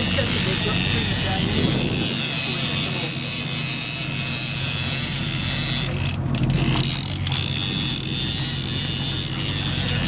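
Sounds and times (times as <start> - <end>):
boat engine droning: 0.0 - 10.0
fishing reel whirring: 0.0 - 10.0.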